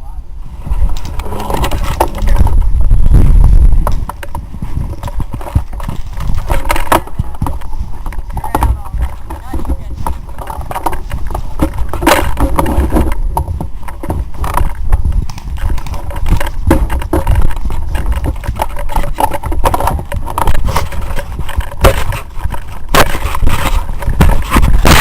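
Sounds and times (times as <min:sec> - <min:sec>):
low rumble on microphone: 0:00.0 - 0:25.0
handling scrapes and knocks: 0:00.5 - 0:25.0.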